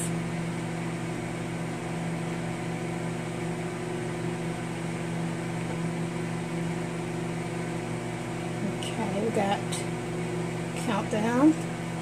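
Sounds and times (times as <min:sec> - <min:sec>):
cooling fan whirring: 0:00.0 - 0:12.0
microwave electrical hum: 0:00.0 - 0:12.0.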